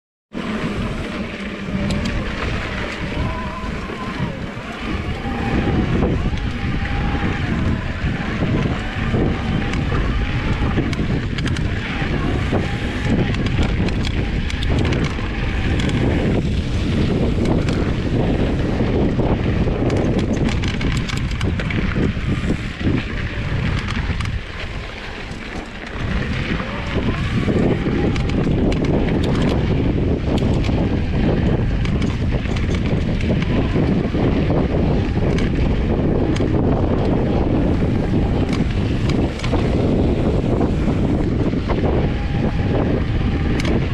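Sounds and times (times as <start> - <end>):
bike tyres rumbling on dirt: 0.3 - 43.9
wind buffeting microphone: 0.3 - 43.9.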